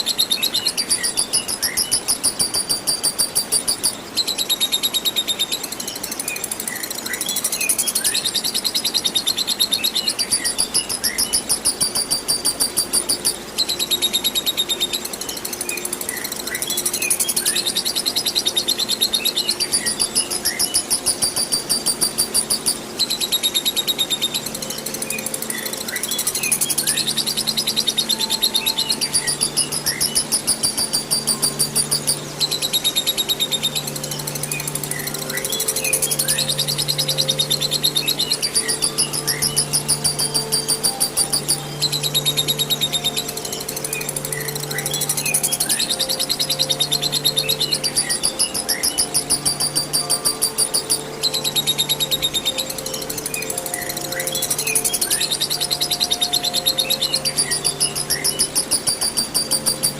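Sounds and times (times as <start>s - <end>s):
running water hiss: 0.0s - 59.9s
bird chattering trill: 9.8s - 14.0s, 15.9s - 59.9s.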